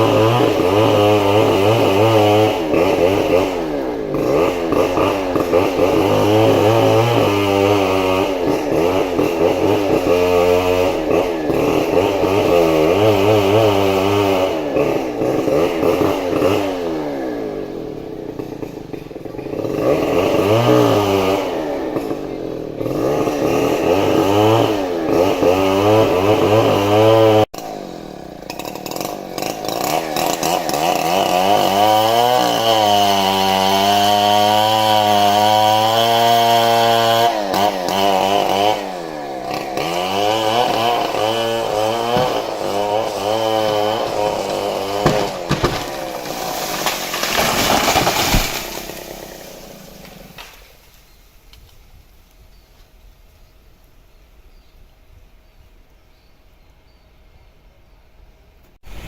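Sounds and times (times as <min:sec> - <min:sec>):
chainsaw revving while cutting wood: 0:00.0 - 0:50.8.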